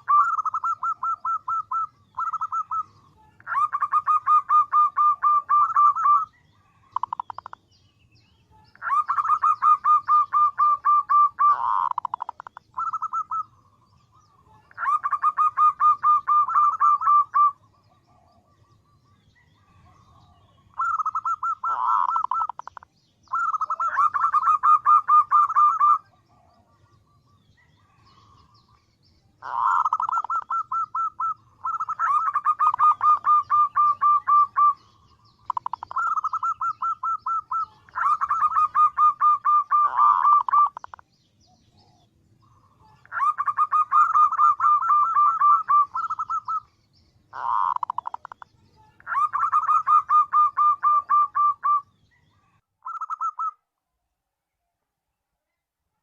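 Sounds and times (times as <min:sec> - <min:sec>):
dove cooing: 0:00.0 - 0:07.6, 0:08.5 - 0:28.7, 0:29.4 - 0:41.0, 0:41.8 - 0:46.7, 0:47.3 - 0:53.6.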